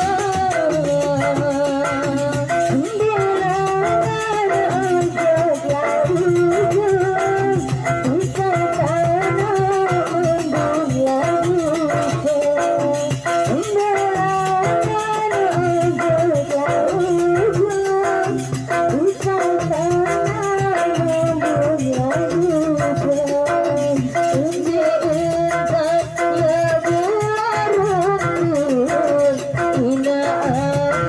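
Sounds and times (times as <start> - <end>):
live ensemble accompaniment: 0.0 - 31.0
woman singing into a microphone: 0.0 - 31.0.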